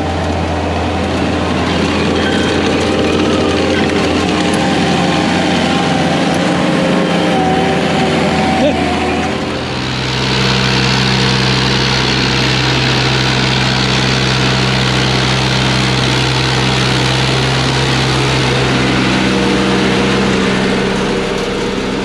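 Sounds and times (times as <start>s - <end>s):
heavy equipment diesel engine humming: 0.0s - 22.0s.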